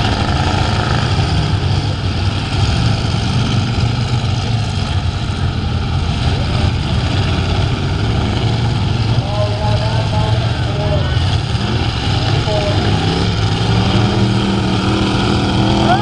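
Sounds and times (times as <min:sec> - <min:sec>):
racing truck engines: 0:00.0 - 0:16.0.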